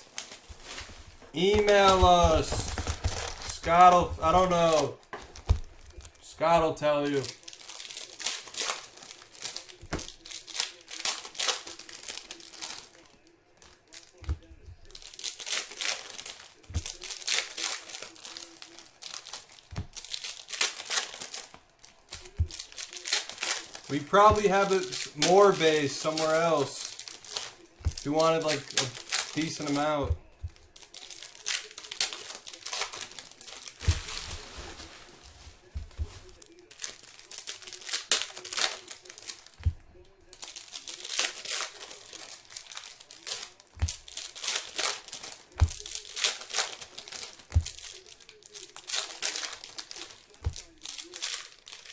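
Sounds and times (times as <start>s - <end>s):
plastic wrappers crinkling: 0.0s - 51.9s.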